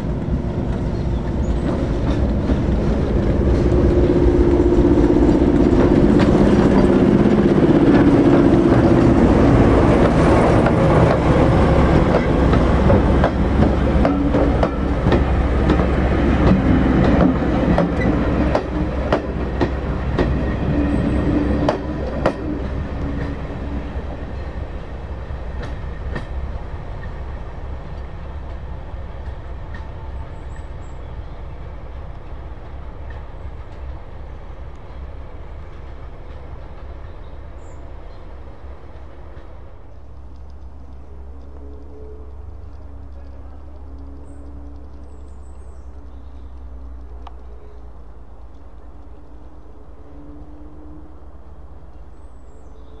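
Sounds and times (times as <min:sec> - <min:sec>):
wheels clicking over rail joints: 0:00.0 - 0:50.6
train coaches rumbling past: 0:00.0 - 0:53.0.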